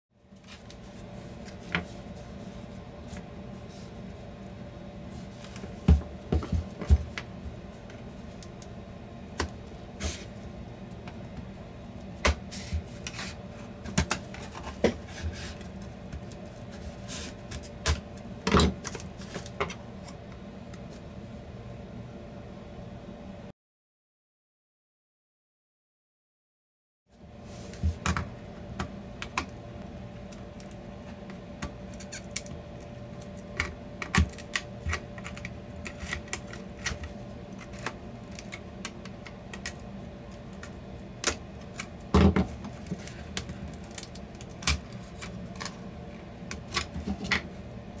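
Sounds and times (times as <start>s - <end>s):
low background hum: 0.2s - 23.5s, 27.1s - 48.0s.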